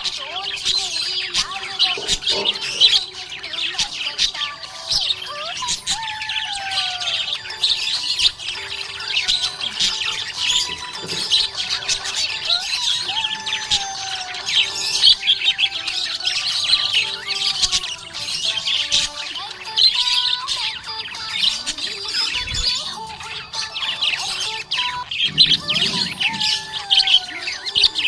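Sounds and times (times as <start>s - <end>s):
budgies chirping: 0.0s - 28.0s.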